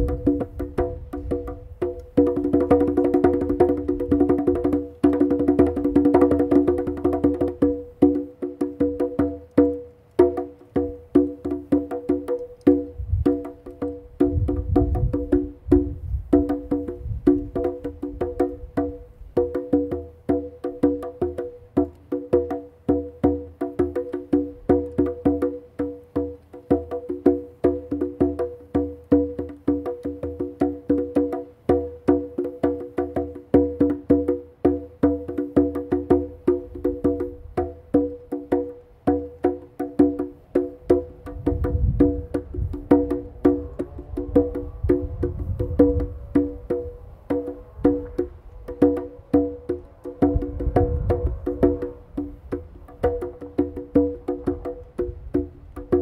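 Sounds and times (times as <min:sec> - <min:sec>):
hand drumming on a conga: 0:00.0 - 0:56.0.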